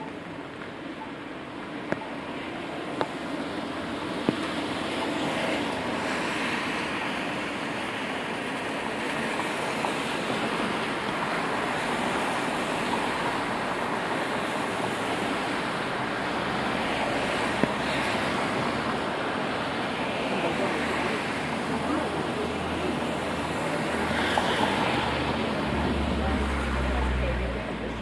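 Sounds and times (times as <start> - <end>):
rain on a street: 0.0 - 28.0
traffic on wet pavement: 0.0 - 28.0.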